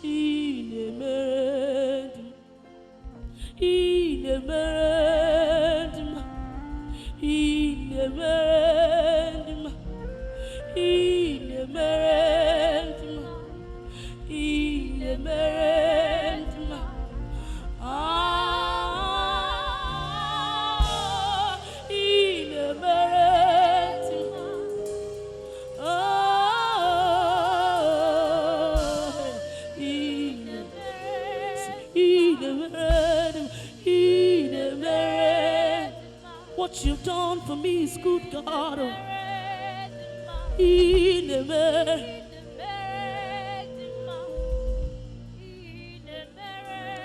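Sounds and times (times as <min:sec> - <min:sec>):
sustained keyboard and bass: 0:02.1 - 0:47.0
person singing with vibrato: 0:03.4 - 0:47.0.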